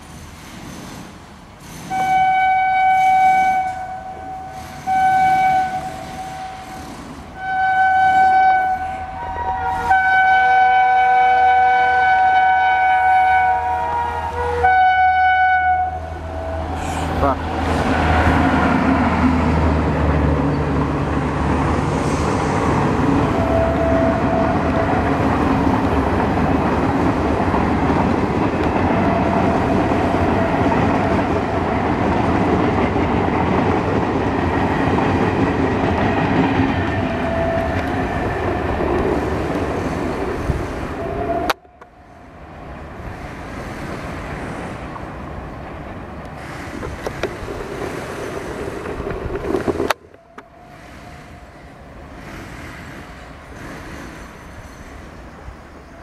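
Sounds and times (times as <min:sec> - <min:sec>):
train wheels rumbling and clattering: 0:00.0 - 0:14.4, 0:15.7 - 0:56.0
distant train: 0:00.0 - 0:56.0.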